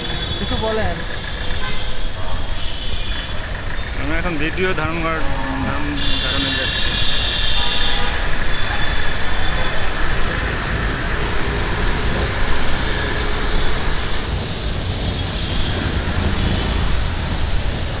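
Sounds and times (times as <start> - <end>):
moving vehicle rumbling: 0.0 - 18.0.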